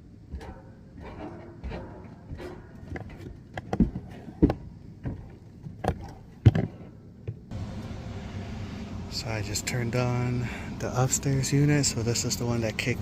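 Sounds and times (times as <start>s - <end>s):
air conditioner running: 0.0s - 13.0s.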